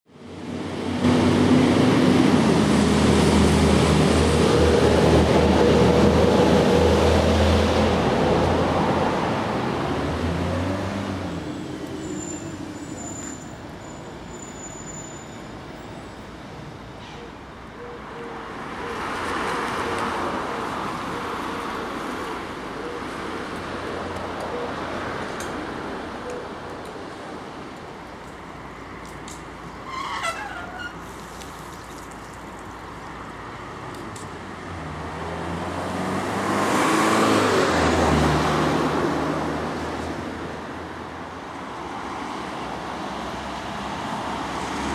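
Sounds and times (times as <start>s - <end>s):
vehicles passing: 0.2s - 44.9s.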